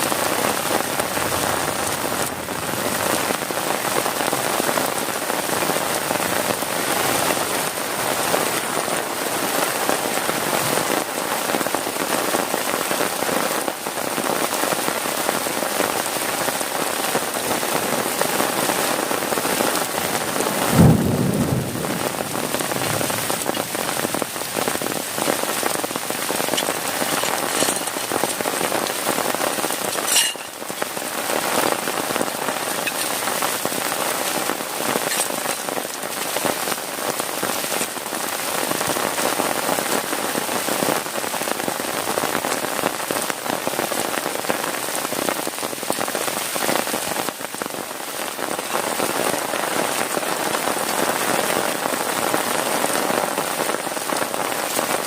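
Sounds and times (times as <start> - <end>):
heavy rain on plastic tarp: 0.0 - 55.0.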